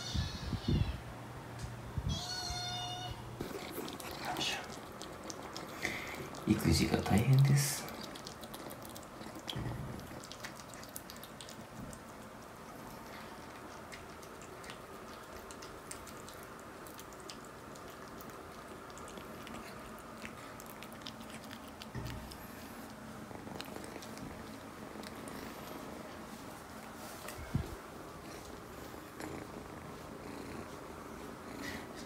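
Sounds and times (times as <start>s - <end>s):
kitten chewing and lapping: 3.3s - 32.0s.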